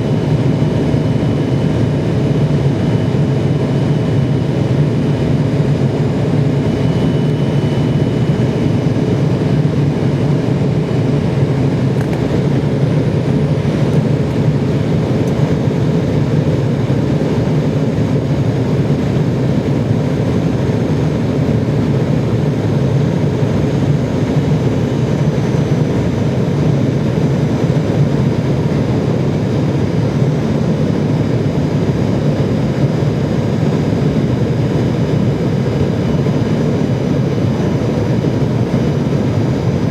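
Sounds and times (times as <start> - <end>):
aircraft cabin engine noise: 0.0 - 39.9.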